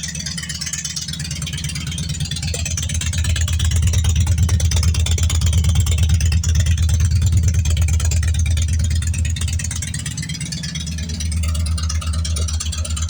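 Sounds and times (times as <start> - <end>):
motorcycle engine exhaust pulsing: 0.0 - 13.0.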